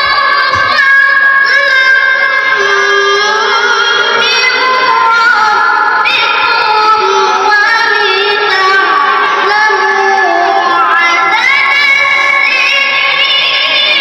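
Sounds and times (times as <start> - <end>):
boy reciting melodically: 0.0 - 14.0.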